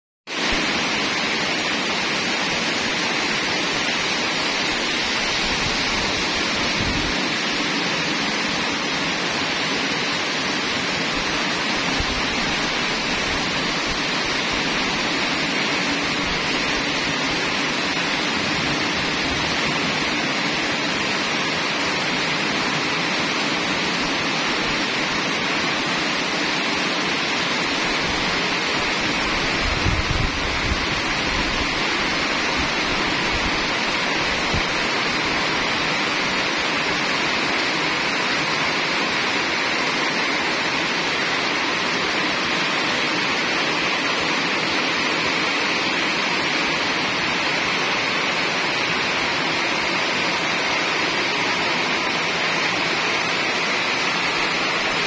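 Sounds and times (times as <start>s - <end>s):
heavy rain pouring: 0.3s - 55.0s.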